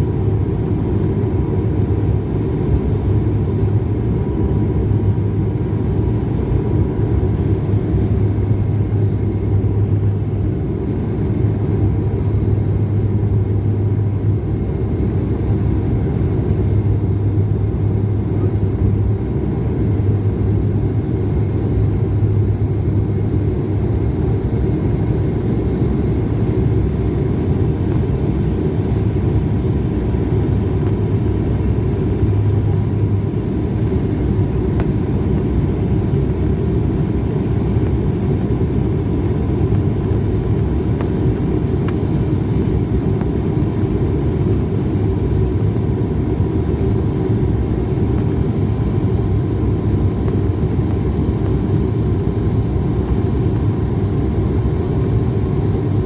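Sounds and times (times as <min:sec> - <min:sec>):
aircraft engines droning in cabin: 0:00.0 - 0:56.0.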